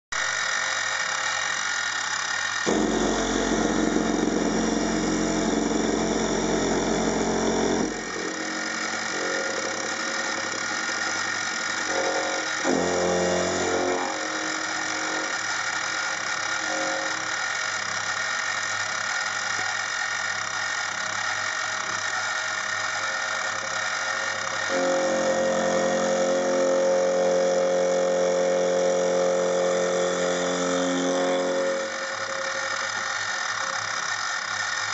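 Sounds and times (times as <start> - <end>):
milling machine whining: 0.2 - 34.9.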